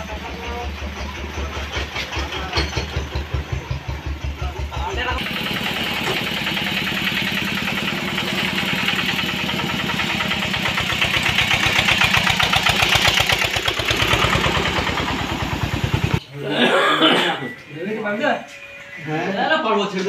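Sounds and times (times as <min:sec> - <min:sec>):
vehicle engine idling: 0:00.0 - 0:16.3.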